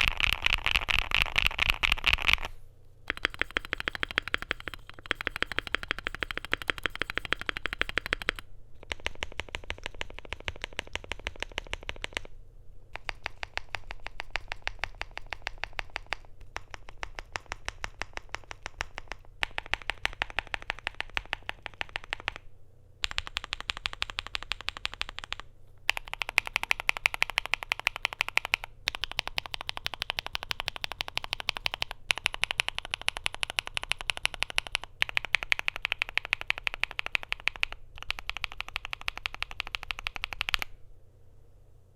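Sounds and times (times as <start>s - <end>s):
mechanical keyboard typing: 0.0s - 12.3s, 12.9s - 40.8s.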